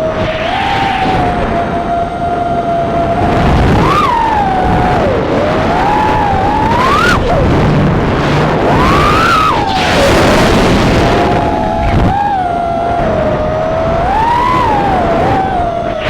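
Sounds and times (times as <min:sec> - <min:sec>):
drone motors whining: 0:00.0 - 0:16.0
steady rushing noise: 0:00.0 - 0:16.0.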